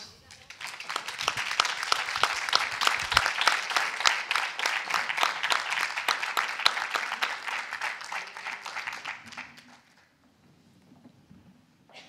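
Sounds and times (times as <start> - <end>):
audience applauding: 0.2 - 10.1.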